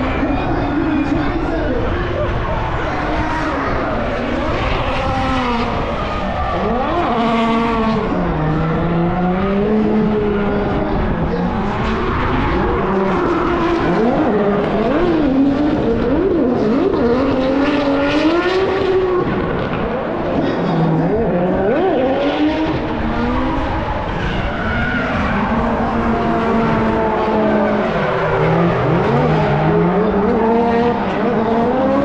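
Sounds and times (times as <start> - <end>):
race car engines revving: 0.0 - 32.0
rush of engine and tyre noise: 0.0 - 32.0.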